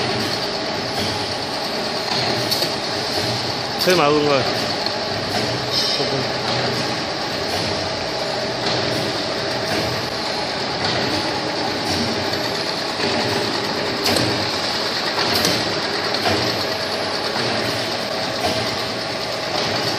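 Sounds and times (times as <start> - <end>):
mechanical whir of conveyors: 0.0 - 19.9.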